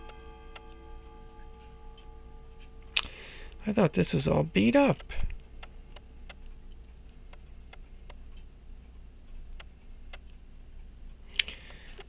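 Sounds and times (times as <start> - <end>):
clockwork ticking: 0.0 - 10.3.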